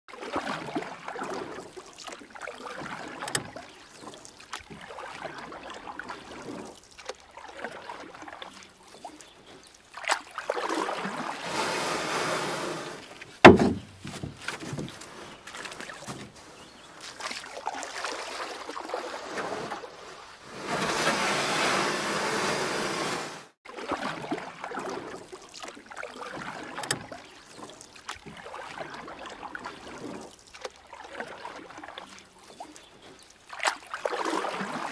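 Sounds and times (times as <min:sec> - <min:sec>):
water splashing and dripping: 0:00.1 - 0:20.7, 0:23.7 - 0:34.9
kayak paddle dipping into water: 0:00.1 - 0:34.9.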